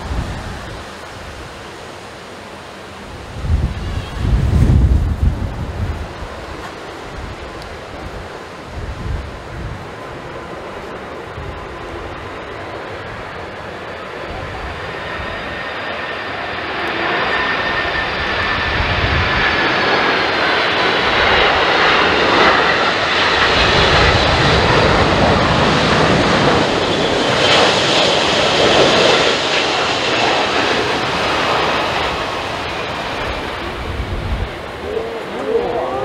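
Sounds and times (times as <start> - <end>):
jet engines rushing and whining: 0.0 - 36.0.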